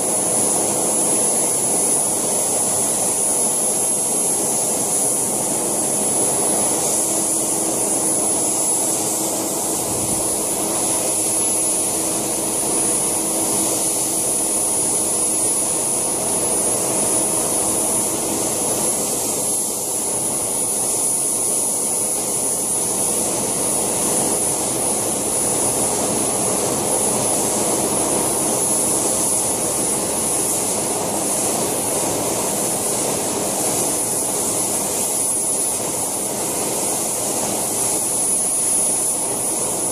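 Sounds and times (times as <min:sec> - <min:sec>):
model turbine rushing and whining: 0:00.0 - 0:39.9.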